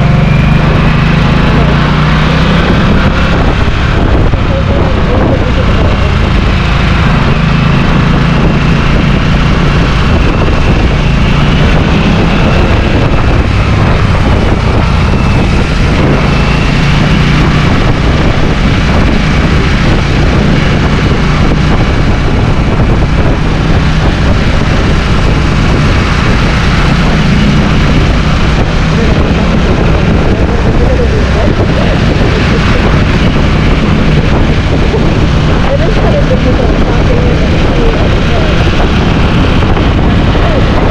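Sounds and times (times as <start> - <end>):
loud even rush of noise: 0.0 - 40.9
motorcycle engine running: 0.0 - 40.9.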